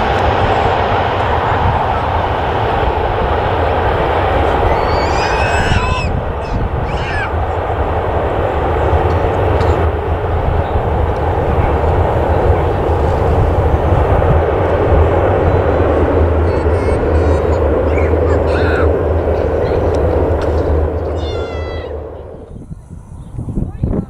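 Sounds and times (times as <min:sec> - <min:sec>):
aircraft engines rumbling: 0:00.0 - 0:24.0.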